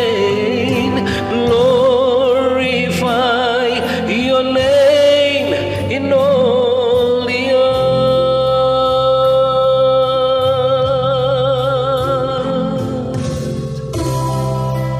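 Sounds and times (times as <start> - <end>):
person singing: 0.0 - 14.9
sustained instrumental accompaniment: 0.0 - 14.9.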